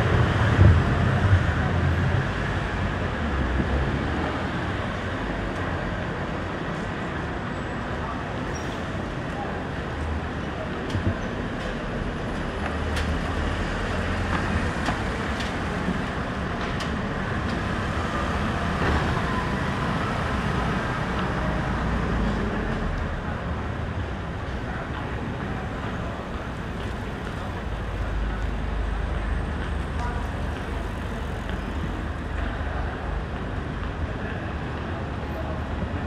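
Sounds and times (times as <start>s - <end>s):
road vehicles passing: 0.0s - 36.0s.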